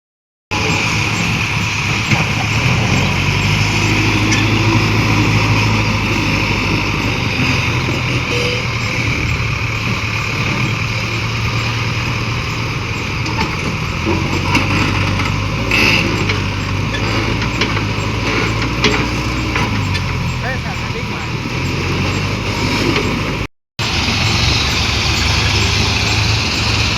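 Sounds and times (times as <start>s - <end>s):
tractor diesel engine running: 0.5s - 26.9s.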